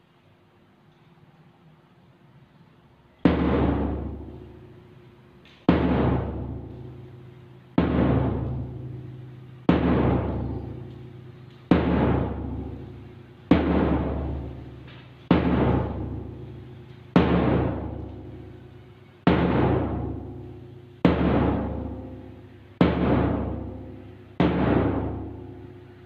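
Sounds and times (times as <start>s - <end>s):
heavy drum beats: 3.2s - 4.8s, 5.7s - 25.9s.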